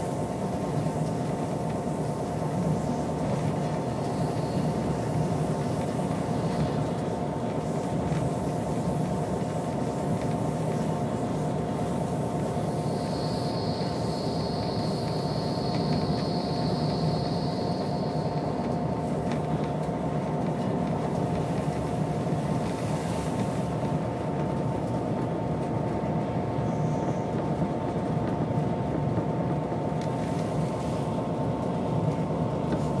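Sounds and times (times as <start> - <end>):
constant whine: 0.0 - 33.0
train rumbling on rails: 0.0 - 33.0.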